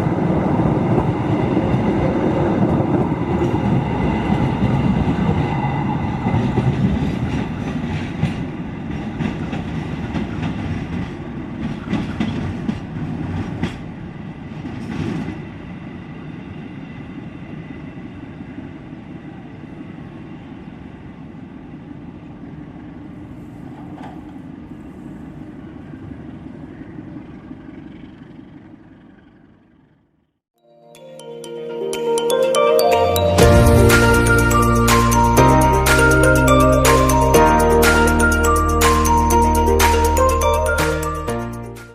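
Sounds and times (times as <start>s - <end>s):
passenger train rolling past: 0.0s - 30.0s, 31.2s - 41.9s.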